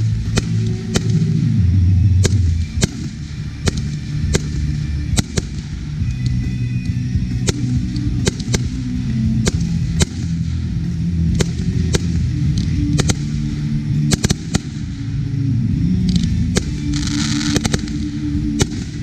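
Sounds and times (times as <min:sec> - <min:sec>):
firework shots bursting: 0:00.0 - 0:06.4, 0:07.3 - 0:15.2, 0:16.0 - 0:19.0
background music with bass: 0:00.0 - 0:19.0.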